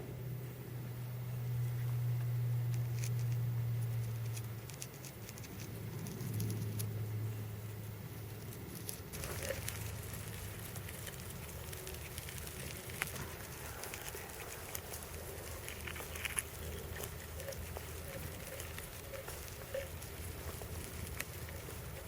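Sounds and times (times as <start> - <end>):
light pattering: 2.7 - 6.9, 7.6 - 22.0.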